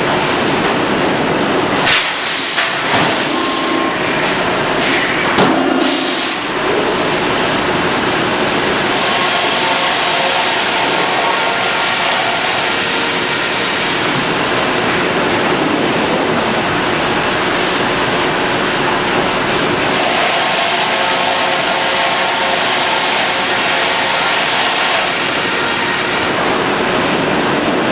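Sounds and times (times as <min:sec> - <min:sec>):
sawmill machinery din: 0:00.0 - 0:27.9.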